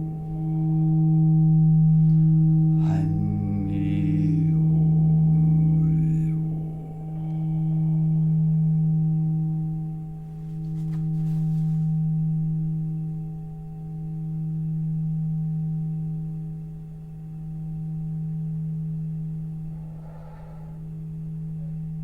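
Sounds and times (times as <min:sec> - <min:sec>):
singing bowl ringing: 0:00.0 - 0:10.4, 0:11.7 - 0:22.0.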